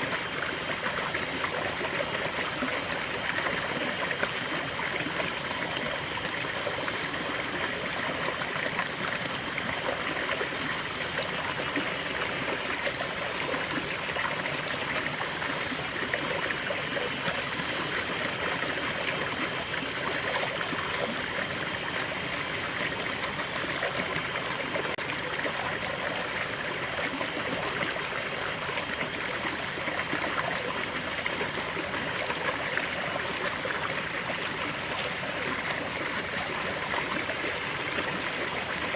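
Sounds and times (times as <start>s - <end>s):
waterfall and stream flowing: 0.0s - 38.9s.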